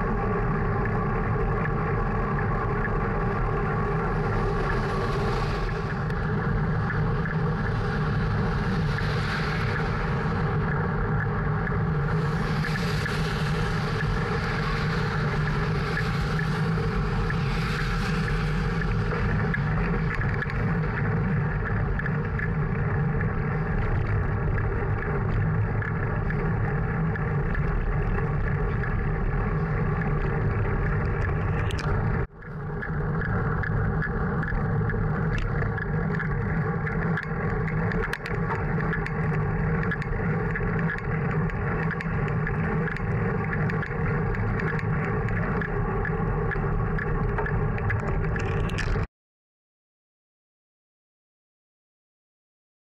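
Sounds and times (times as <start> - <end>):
wind and road noise: 0.0 - 49.1.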